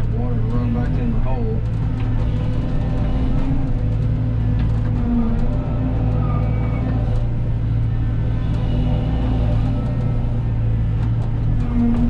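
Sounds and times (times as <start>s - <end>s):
excavator diesel engine running: 0.0s - 12.0s
faint clicks and clanks: 0.0s - 12.0s.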